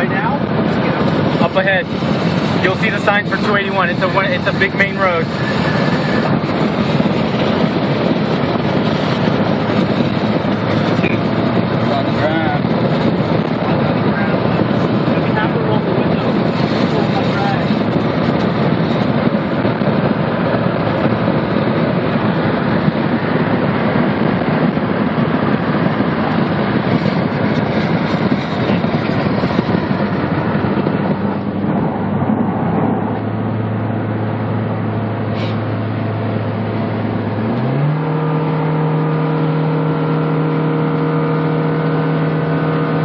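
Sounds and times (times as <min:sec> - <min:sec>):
car engine drone: 0:00.0 - 0:43.0
road and wind rush: 0:00.0 - 0:43.0.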